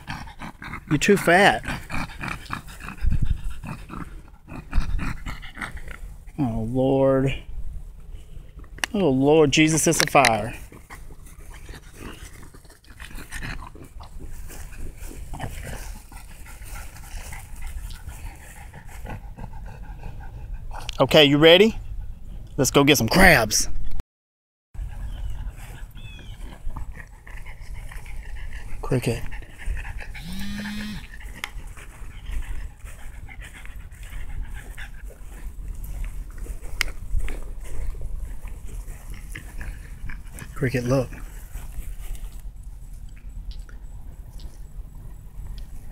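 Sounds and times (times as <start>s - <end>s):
dog breathing and snuffling: 0.0s - 6.5s, 9.5s - 22.5s, 24.8s - 45.9s.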